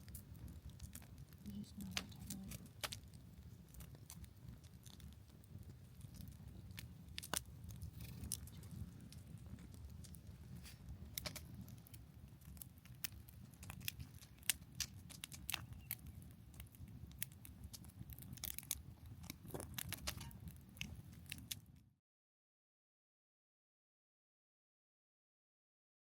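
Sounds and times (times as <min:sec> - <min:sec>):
campfire crackling: 0:00.0 - 0:21.9.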